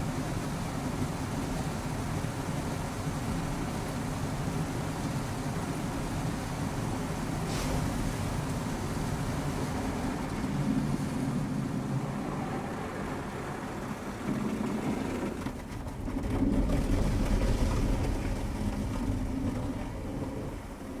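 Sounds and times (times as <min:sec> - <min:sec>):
car being washed: 0:00.4 - 0:21.0.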